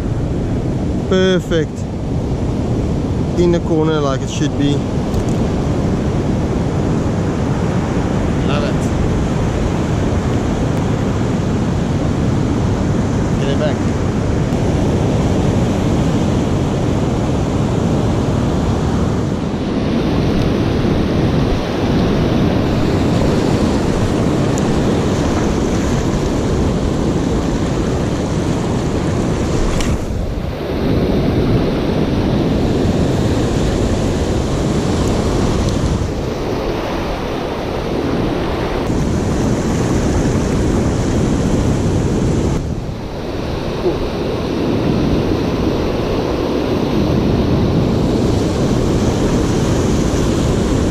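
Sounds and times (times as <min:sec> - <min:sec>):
surf washing over rocks: 0:00.0 - 0:50.9
wind buffeting microphone: 0:00.0 - 0:50.9.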